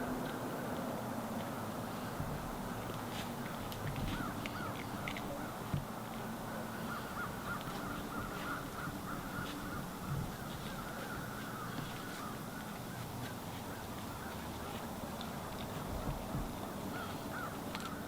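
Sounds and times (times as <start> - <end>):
distant birds calling: 0.0 - 18.0.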